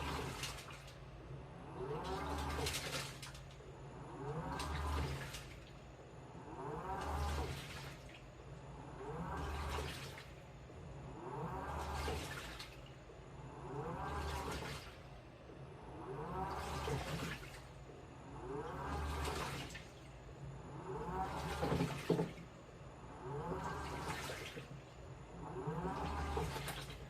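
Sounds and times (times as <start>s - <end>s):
washing machine motor whine: 0.0s - 27.0s
water and laundry sloshing: 0.0s - 27.0s.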